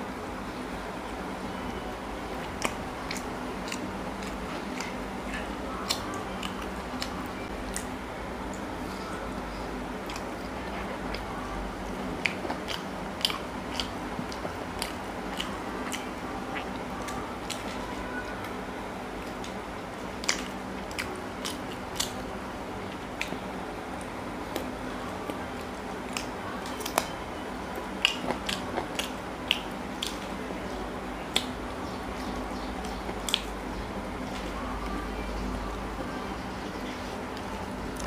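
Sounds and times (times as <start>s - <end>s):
chewing food: 1.7s - 38.0s.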